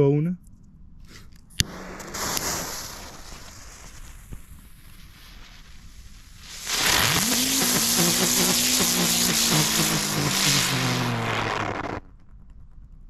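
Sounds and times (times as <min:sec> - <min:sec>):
ground firework hissing: 0:01.1 - 0:12.0.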